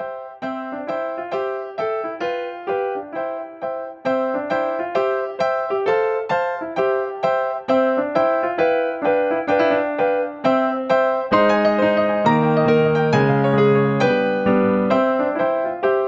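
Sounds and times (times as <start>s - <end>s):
gentle keyboard melody: 0.0s - 16.0s.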